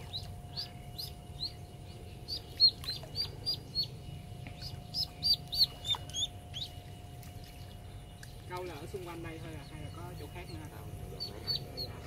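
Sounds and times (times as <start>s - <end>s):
duckling peeping: 0.0s - 12.0s.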